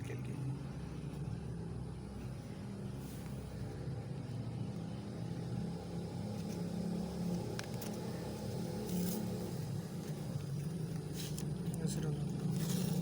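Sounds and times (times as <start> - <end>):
low engine-like drone: 0.0 - 13.0.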